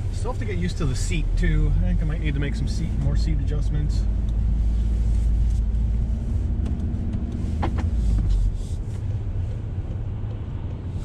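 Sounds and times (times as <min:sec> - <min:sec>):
car engine driving away: 0:00.0 - 0:11.0.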